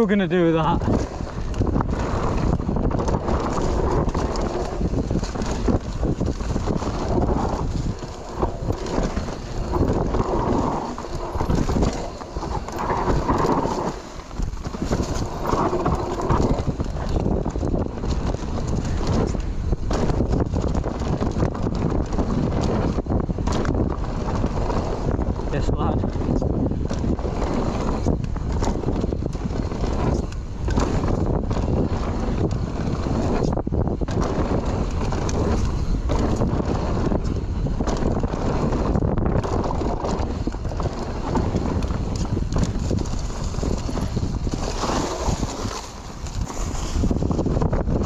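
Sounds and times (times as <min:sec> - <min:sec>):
bike rattling and knocking: 0:00.0 - 0:48.0
bike tyres on dirt: 0:00.0 - 0:48.0
wind buffeting the microphone: 0:00.0 - 0:48.0.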